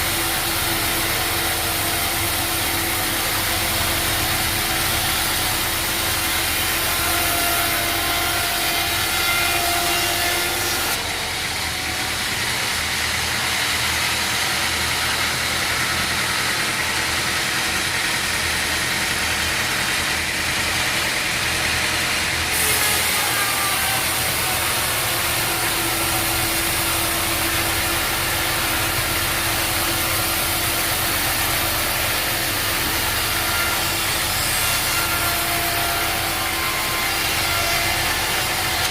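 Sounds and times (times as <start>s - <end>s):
saw cutting through wood: 0.0s - 38.9s
sawmill motor hum: 0.0s - 38.9s.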